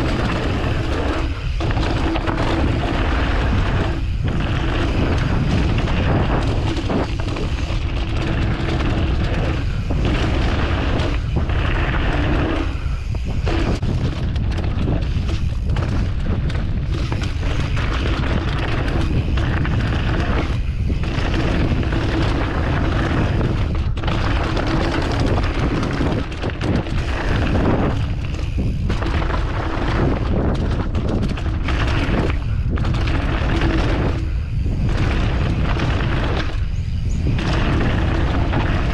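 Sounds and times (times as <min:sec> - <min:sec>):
bike tyre noise: 0:00.0 - 0:38.9
wind buffeting microphone: 0:00.0 - 0:38.9.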